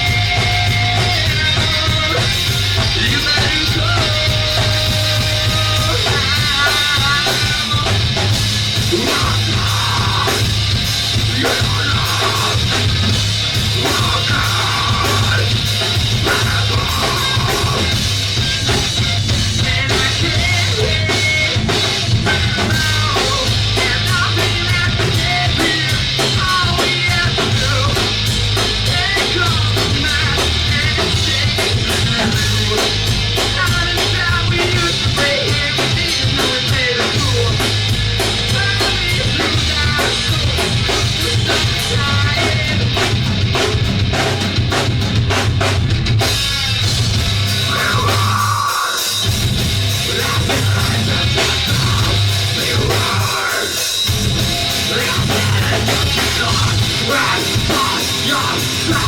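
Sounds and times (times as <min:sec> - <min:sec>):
drum kit: 0:00.0 - 0:59.0
live rock band playing: 0:00.0 - 0:59.0.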